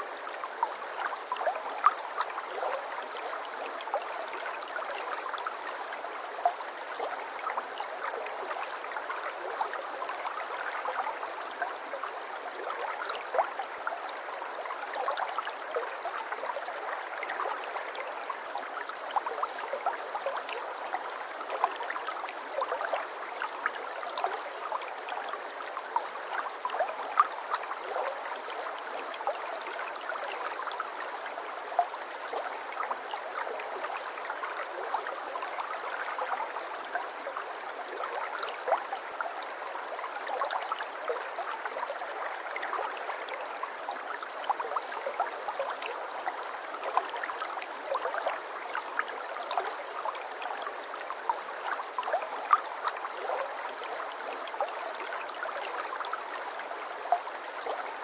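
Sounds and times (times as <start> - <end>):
brook babbling over stones: 0.0 - 58.0.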